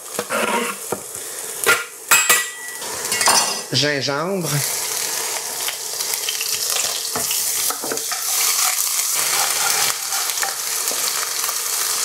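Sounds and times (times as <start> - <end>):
garlic sizzling in a wok: 0.0 - 12.0.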